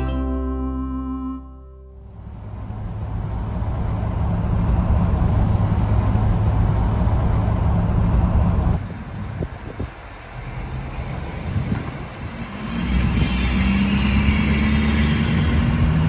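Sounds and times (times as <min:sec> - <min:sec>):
diesel truck engine and road noise: 0:00.0 - 0:16.0.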